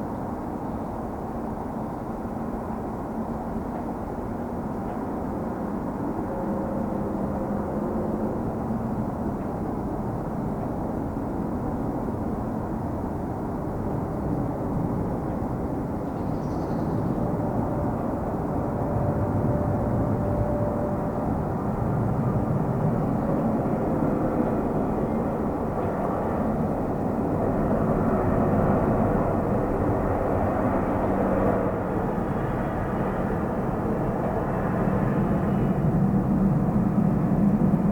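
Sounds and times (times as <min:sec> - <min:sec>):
jet engines rumbling: 0:04.5 - 0:37.9.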